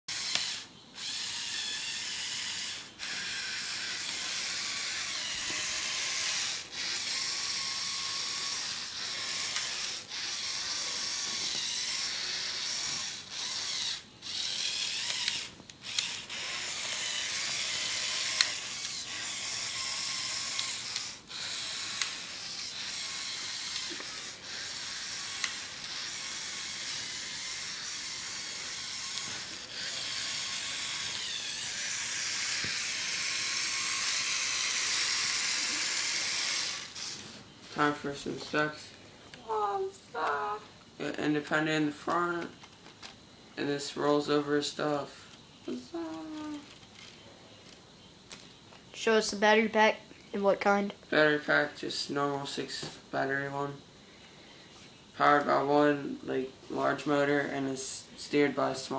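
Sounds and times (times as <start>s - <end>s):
toy motor and gears whirring: 0.1s - 40.6s, 41.4s - 50.5s, 54.7s - 58.9s.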